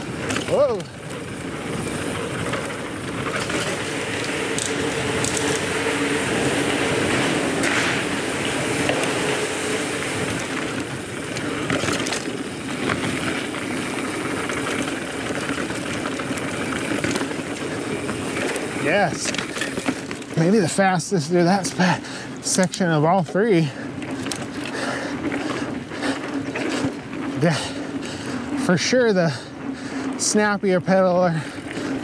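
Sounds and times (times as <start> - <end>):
bike clicks and rattles: 0.0 - 32.0
tyres humming on dirt: 0.0 - 32.0.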